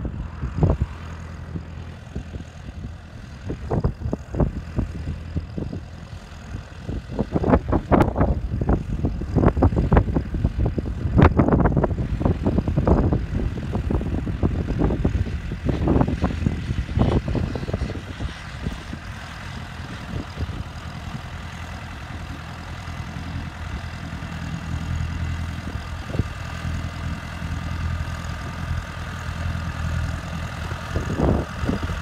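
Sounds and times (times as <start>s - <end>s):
wind buffeting microphone: 0.0s - 27.2s, 27.8s - 32.0s
tractor diesel engine under load: 0.0s - 32.0s.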